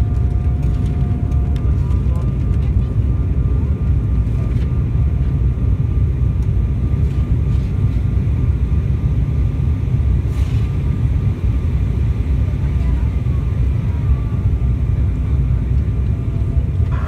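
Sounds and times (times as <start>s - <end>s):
airliner cabin roar: 0.0s - 17.0s.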